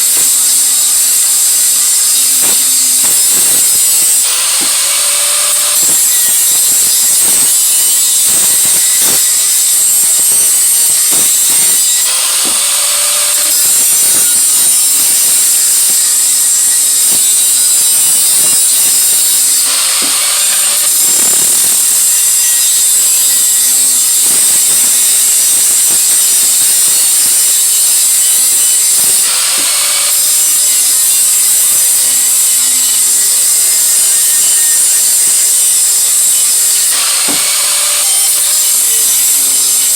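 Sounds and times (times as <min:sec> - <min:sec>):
tool grinding metal pipe: 0:00.0 - 0:39.9.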